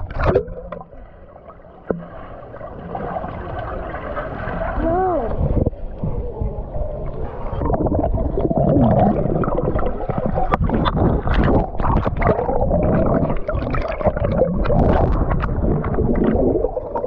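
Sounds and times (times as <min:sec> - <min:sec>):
underwater gurgling and sloshing: 0:00.0 - 0:17.0.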